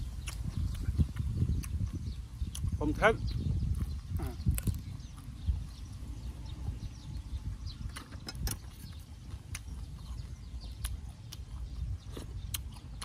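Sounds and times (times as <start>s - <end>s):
chewing crunchy raw greens: 0.0s - 13.0s
steady low rumble: 0.0s - 13.0s.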